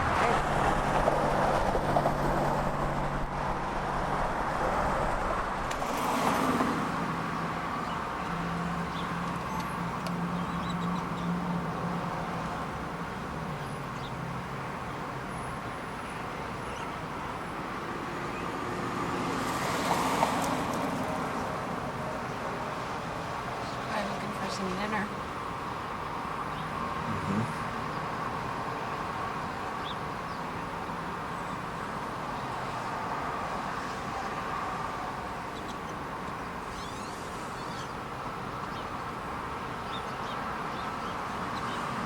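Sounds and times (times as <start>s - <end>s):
passing cars: 0.0s - 42.0s.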